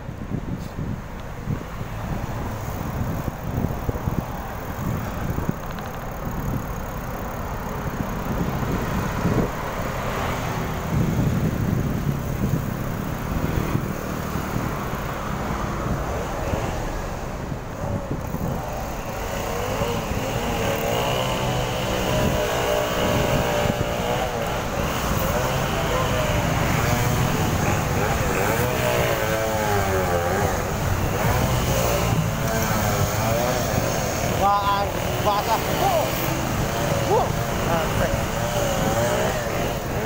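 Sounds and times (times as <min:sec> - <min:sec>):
road traffic: 0:00.0 - 0:40.0
wind rumbling on microphone: 0:00.0 - 0:40.0
motor vehicle engine approaching: 0:01.4 - 0:40.0.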